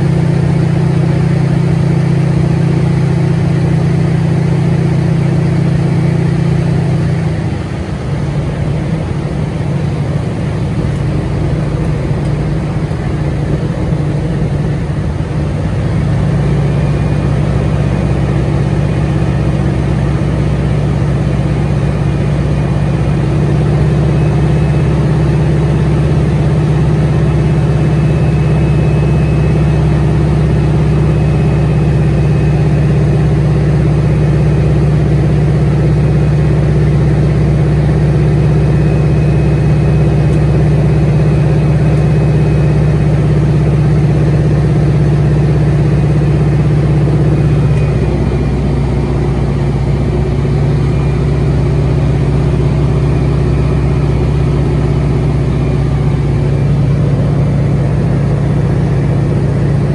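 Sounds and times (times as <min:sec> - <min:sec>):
radial engine and propeller droning: 0:00.0 - 0:59.9.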